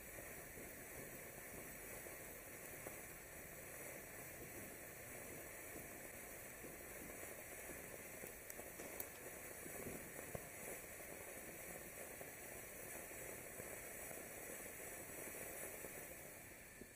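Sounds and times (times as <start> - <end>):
faint crackles: 0.0 - 16.9
fountain firework hissing: 0.0 - 16.9.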